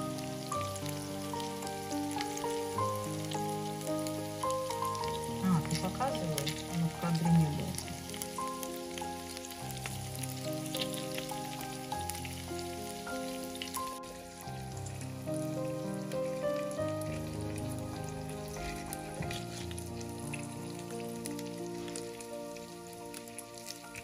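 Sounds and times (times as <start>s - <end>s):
meat patties sizzling in oil: 0.0s - 24.0s.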